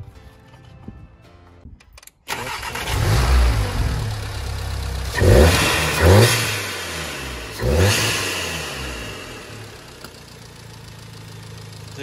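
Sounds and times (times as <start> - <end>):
car engine revving: 2.3 - 12.0.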